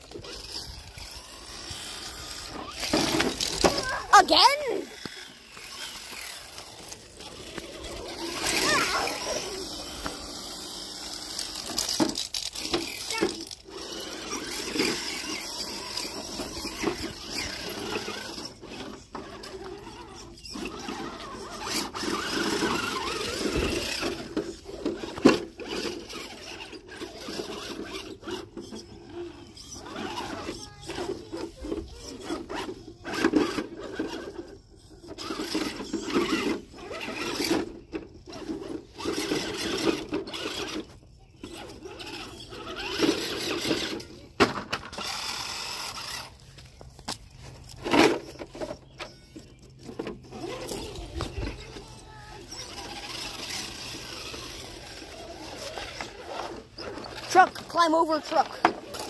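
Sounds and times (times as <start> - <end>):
toy truck motor whirring: 0.0 - 59.0.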